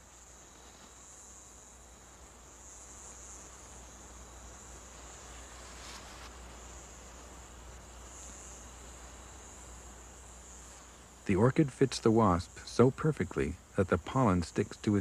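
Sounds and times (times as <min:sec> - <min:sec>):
cricket-like insect trilling: 0:00.0 - 0:15.0.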